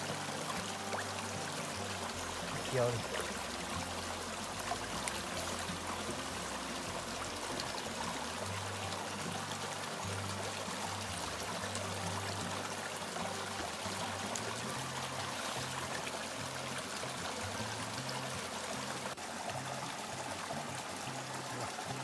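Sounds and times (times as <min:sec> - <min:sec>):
low background music: 0:00.0 - 0:22.0
stream running over rocks: 0:00.0 - 0:22.0.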